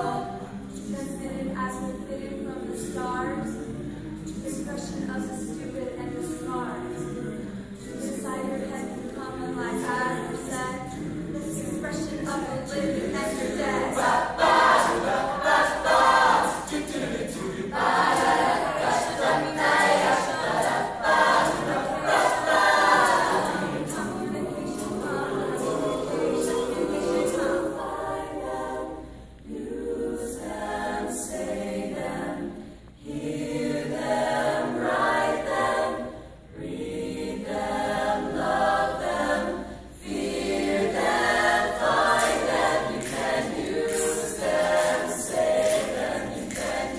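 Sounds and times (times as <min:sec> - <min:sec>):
mixed choir singing a cappella: 0:00.0 - 0:46.9.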